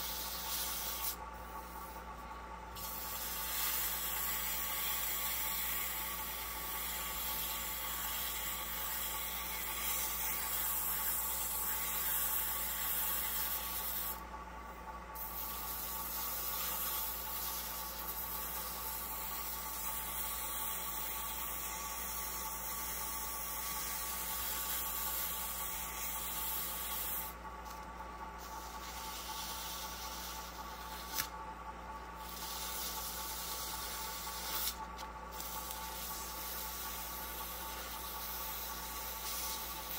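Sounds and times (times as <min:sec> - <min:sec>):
sandpaper hissing on spinning wood: 0:00.0 - 0:02.1, 0:02.8 - 0:14.2, 0:15.2 - 0:27.4, 0:28.4 - 0:31.3, 0:32.2 - 0:39.9.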